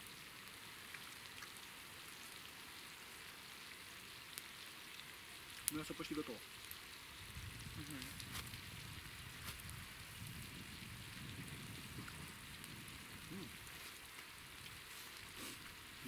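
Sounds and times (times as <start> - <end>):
meat sizzling: 3.1 - 16.0.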